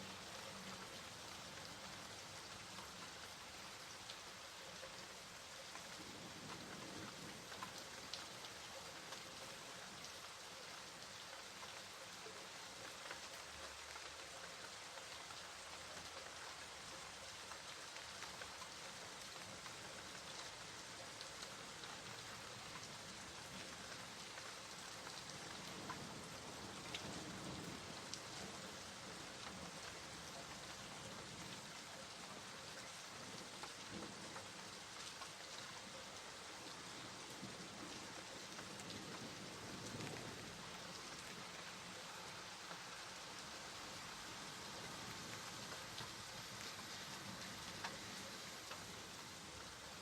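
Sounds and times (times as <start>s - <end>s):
rain falling: 0.0s - 50.0s
raindrops ticking on a surface: 0.0s - 50.0s.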